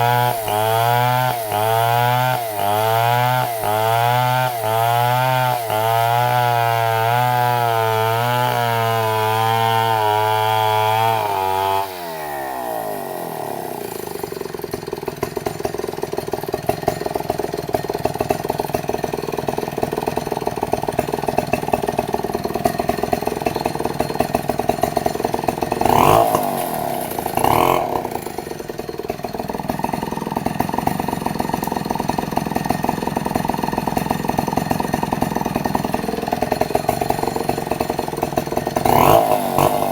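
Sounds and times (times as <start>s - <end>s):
chainsaw cutting log: 0.0s - 39.9s
chainsaw idling with revs: 0.0s - 39.9s.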